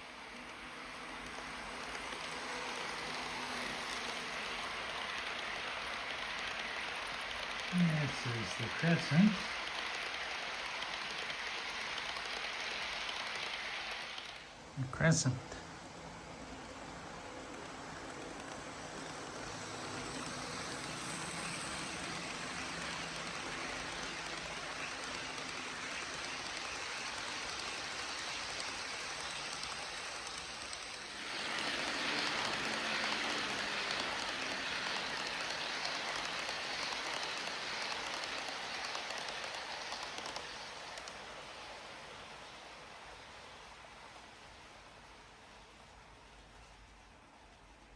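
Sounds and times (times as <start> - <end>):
train wheels rushing on rails: 0.0 - 47.9.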